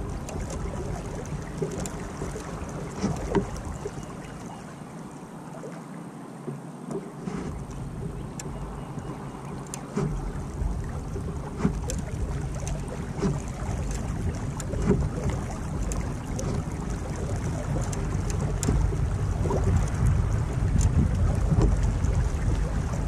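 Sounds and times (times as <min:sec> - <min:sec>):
wind on microphone: 0:00.0 - 0:04.6, 0:07.2 - 0:23.0
light knocks or splashes: 0:00.0 - 0:04.7, 0:06.4 - 0:23.0
water lapping against kayak hull: 0:00.0 - 0:23.0.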